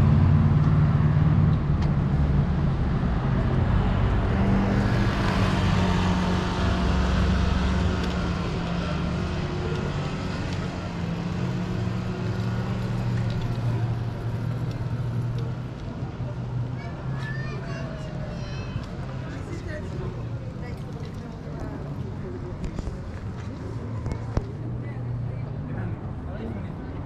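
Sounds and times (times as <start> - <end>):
traffic noise: 0.0 - 27.0.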